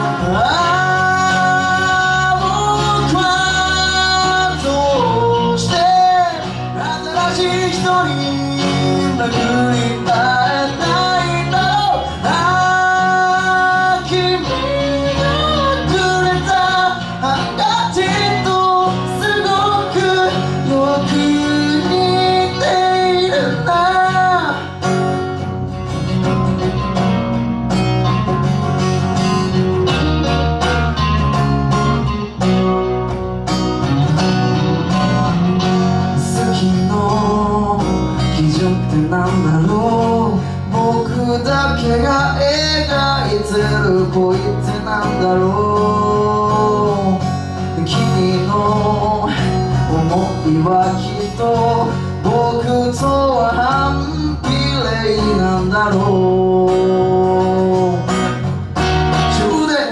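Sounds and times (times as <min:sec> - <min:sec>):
person singing: 0:00.0 - 0:25.3, 0:34.8 - 0:58.6, 0:59.2 - 0:59.9
acoustic guitar strumming: 0:00.0 - 0:59.9
electric bass: 0:00.0 - 0:59.9
electric guitar: 0:00.0 - 0:59.9.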